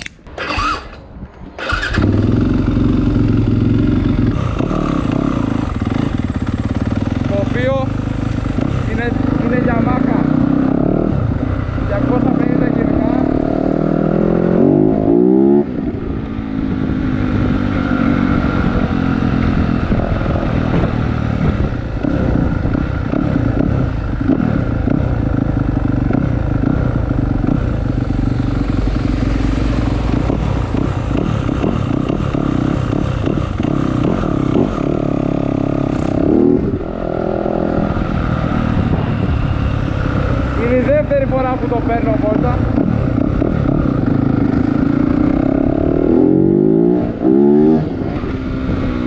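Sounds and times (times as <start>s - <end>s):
motocross bike engine revving: 0.3s - 1.0s, 1.6s - 49.0s.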